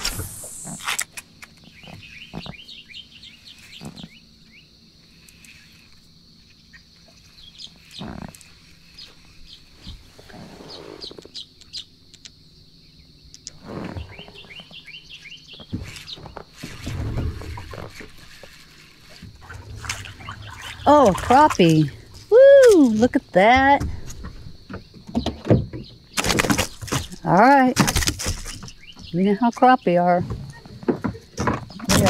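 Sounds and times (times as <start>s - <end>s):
birds chirping: 1.5s - 18.4s, 19.0s - 32.0s.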